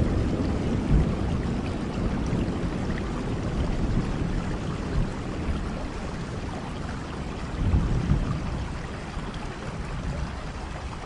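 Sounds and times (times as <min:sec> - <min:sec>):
low thunder rumble: 0:00.0 - 0:11.0
steady rain falling: 0:00.0 - 0:11.0.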